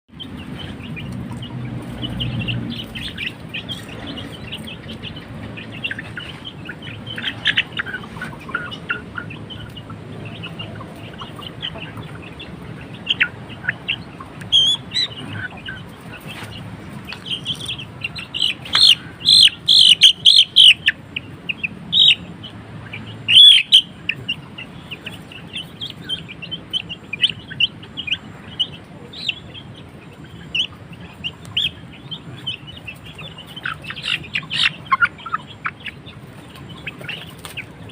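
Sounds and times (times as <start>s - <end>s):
chicks peeping: 0.1s - 37.9s.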